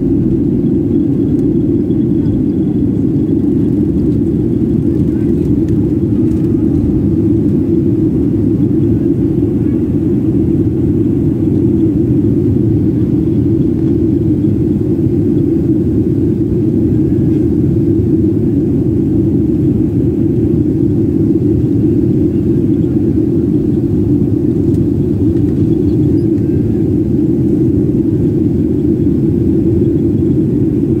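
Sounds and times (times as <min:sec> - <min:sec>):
jet airliner cabin noise: 0:00.0 - 0:31.0.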